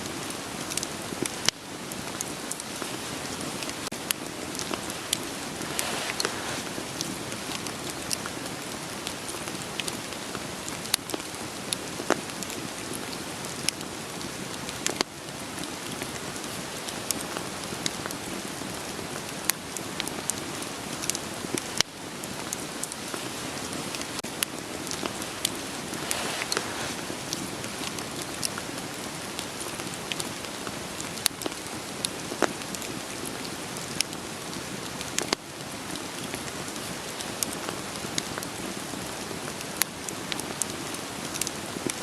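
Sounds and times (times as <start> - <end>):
steady rain falling: 0.0 - 42.0
wood fire crackling: 0.0 - 42.0.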